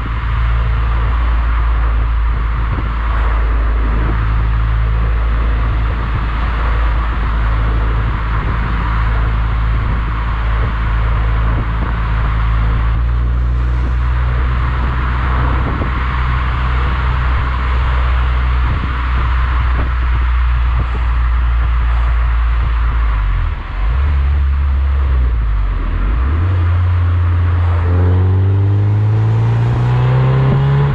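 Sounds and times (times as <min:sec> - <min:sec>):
car engine droning: 0:00.0 - 0:30.9.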